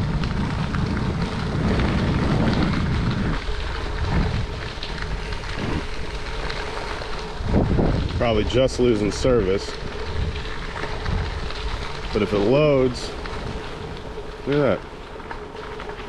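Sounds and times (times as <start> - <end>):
bicycle tyres rolling: 0.0 - 16.0
wind on microphone: 0.0 - 16.0.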